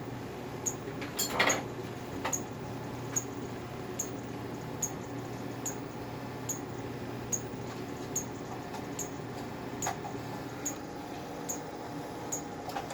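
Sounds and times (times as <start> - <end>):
console hum: 1.8 - 12.9.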